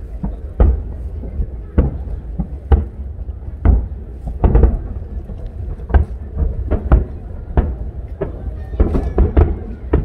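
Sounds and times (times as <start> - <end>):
fireworks booming and cracking: 0.0 - 10.0.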